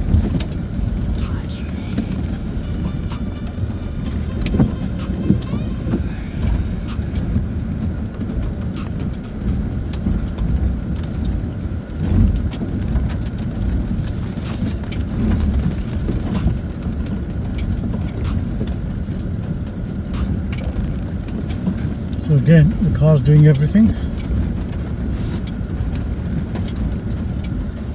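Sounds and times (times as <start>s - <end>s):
vehicle low rumble off-road: 0.0s - 27.9s.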